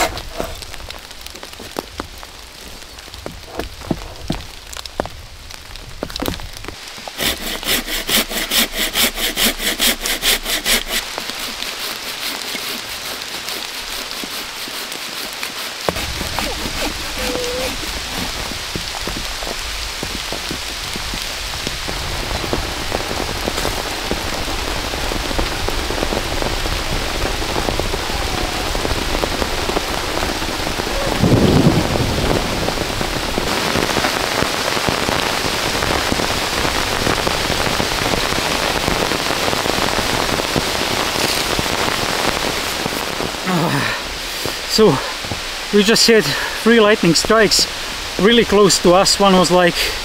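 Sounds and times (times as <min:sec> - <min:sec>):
rain pouring: 0:00.0 - 0:50.0.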